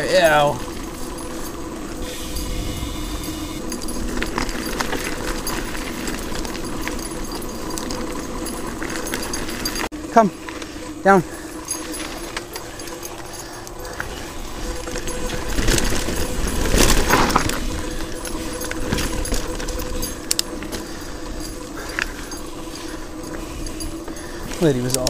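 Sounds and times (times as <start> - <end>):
bike chain and parts rattling: 0.0 - 25.0.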